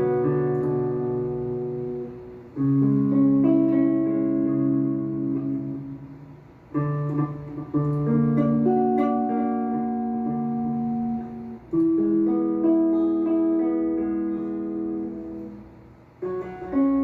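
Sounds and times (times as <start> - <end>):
guitar chords ringing: 0.0 - 17.0.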